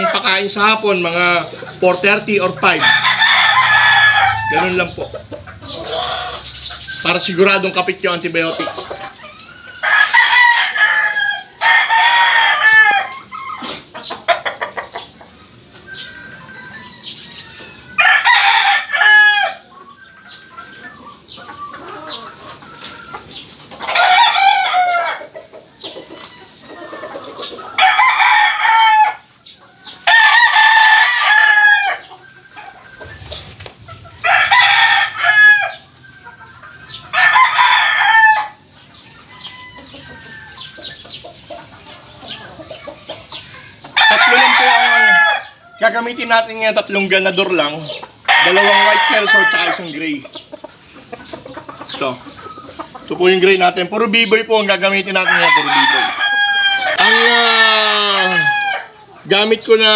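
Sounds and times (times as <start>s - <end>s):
roosters crowing: 0.0s - 59.9s.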